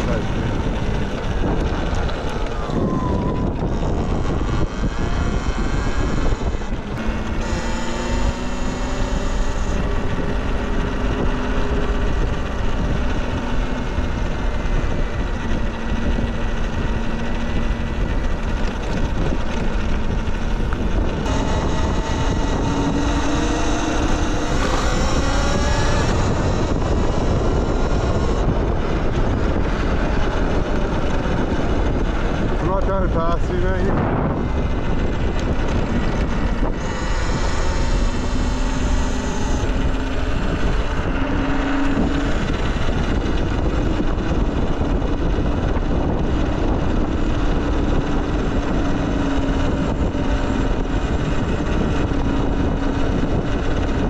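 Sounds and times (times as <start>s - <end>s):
electric motorbike motor whining: 0.0s - 54.0s
wind rumble on microphone: 0.0s - 54.0s.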